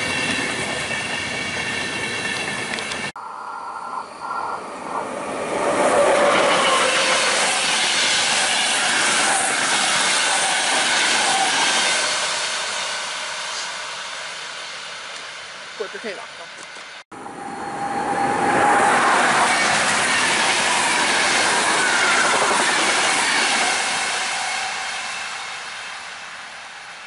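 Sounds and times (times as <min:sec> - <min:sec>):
train high whine: 0:00.0 - 0:27.0
train wheel and rail noise: 0:00.0 - 0:27.0.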